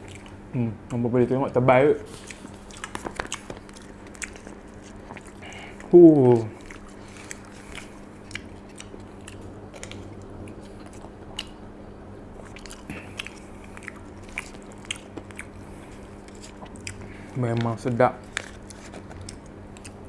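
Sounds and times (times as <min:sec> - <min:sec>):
person chewing: 0:00.0 - 0:01.0, 0:02.0 - 0:11.6, 0:12.4 - 0:20.0
low steady hum: 0:00.0 - 0:20.0.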